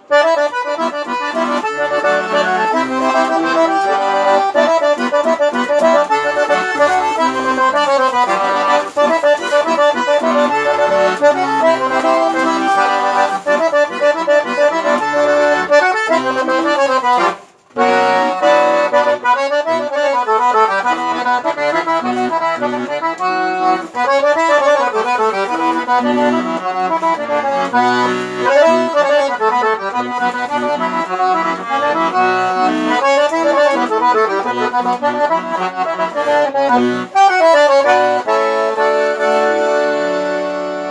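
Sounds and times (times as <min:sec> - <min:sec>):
accordion playing a tune: 0:00.0 - 0:40.9.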